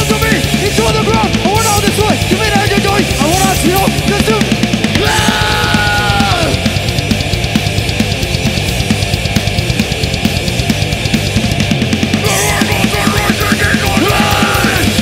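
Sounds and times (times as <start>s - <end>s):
bass guitar: 0.0s - 15.0s
distorted electric guitar: 0.0s - 15.0s
drum kit: 0.0s - 15.0s.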